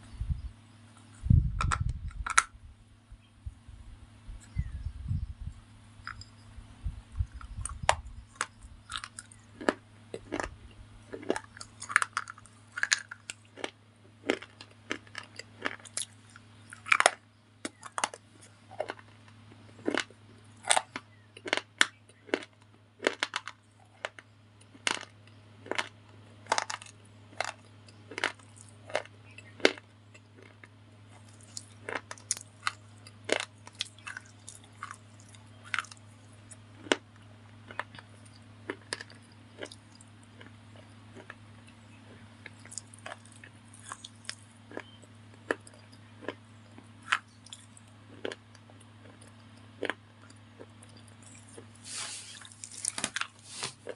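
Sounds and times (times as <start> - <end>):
faint low hum: 0.0 - 53.9
slate crunching between teeth: 7.2 - 53.9.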